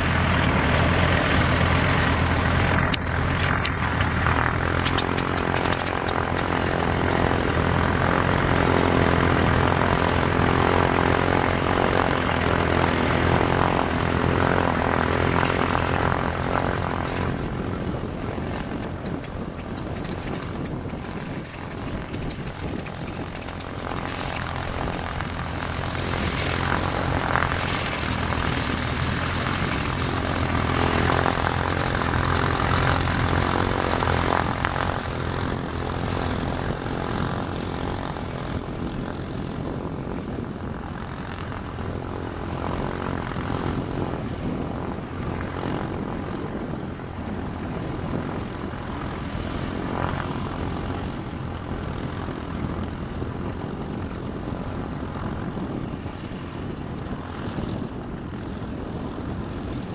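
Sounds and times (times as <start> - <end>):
propeller aircraft engines taxiing: 0.0 - 59.9.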